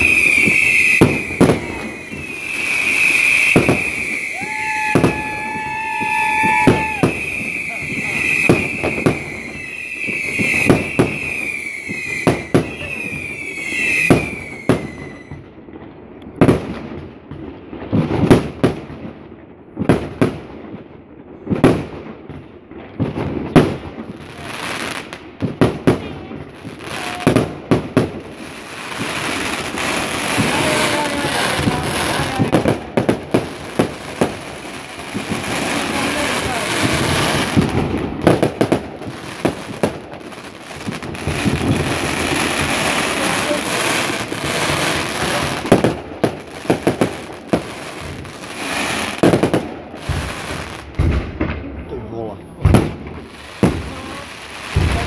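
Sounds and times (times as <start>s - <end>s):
fireworks whistling: 0.0s - 15.6s, 23.0s - 51.8s, 52.4s - 55.0s
fireworks bangs: 0.0s - 55.0s
fireworks crackling: 0.0s - 55.0s.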